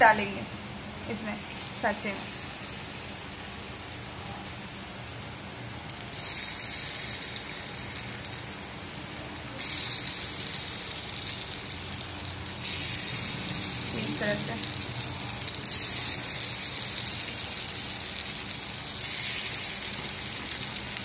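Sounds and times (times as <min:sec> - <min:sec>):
batter sizzling in hot oil: 0:01.1 - 0:21.0.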